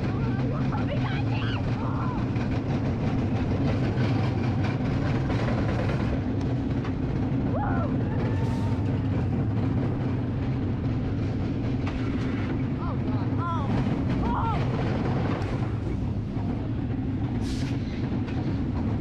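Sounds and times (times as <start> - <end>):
roller coaster rumbling on track: 0.0 - 19.0.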